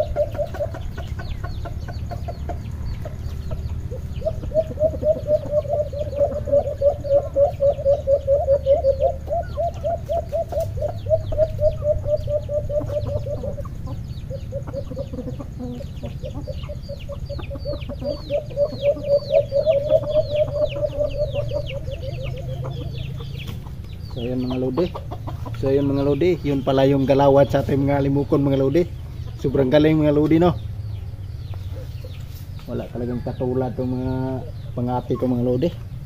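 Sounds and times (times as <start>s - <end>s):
bird chirping: 0.0s - 36.0s
doves hooting: 0.0s - 36.0s.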